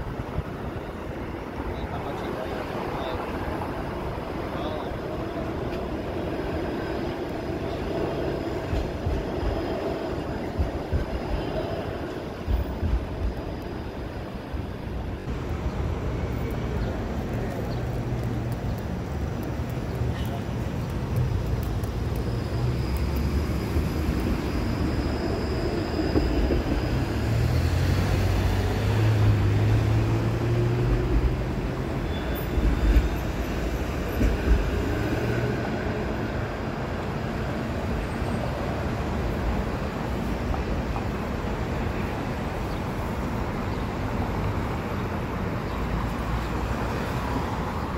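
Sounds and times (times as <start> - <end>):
streetcar rumble: 0.0 - 47.9
traffic: 0.0 - 47.9.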